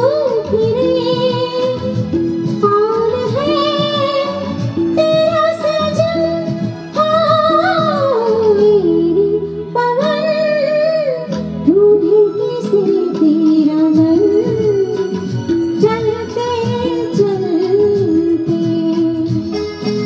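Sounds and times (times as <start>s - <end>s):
plucked string accompaniment: 0.0s - 20.0s
woman singing: 0.0s - 20.0s.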